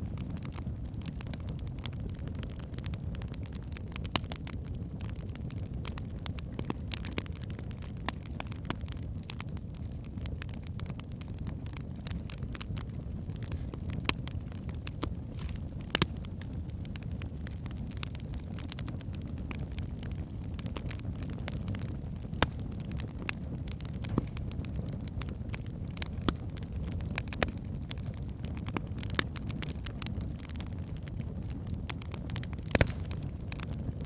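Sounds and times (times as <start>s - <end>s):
fire crackling: 0.0s - 34.0s
fire flames rumbling: 0.0s - 34.0s
fire popping: 0.0s - 34.0s.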